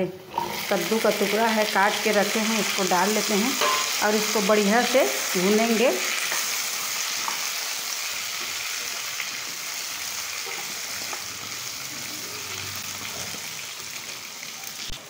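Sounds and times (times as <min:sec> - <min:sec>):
food sizzling in hot oil: 0:00.3 - 0:15.0.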